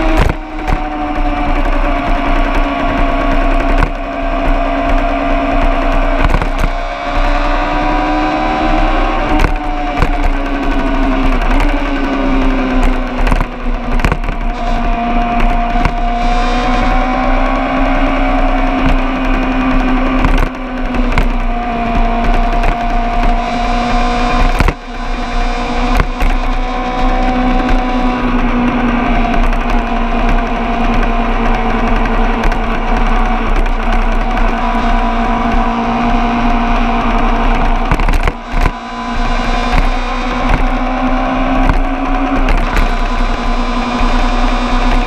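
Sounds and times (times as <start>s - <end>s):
sharp clicks: 0.0s - 45.0s
vehicle engine running: 0.0s - 45.0s.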